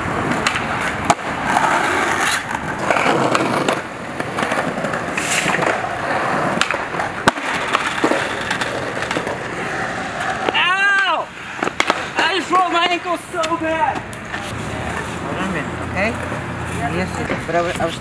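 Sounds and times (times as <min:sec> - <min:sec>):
skateboard clacking on ground: 0:00.0 - 0:15.6
skateboard wheels rolling on concrete: 0:00.0 - 0:18.0.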